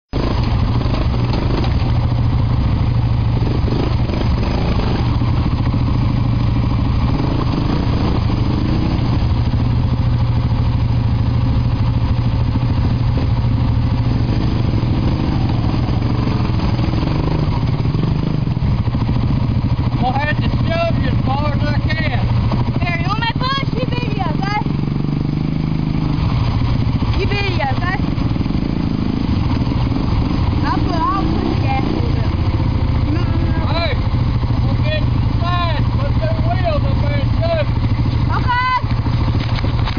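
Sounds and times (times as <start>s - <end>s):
quad bike engines running: 0.1s - 39.9s.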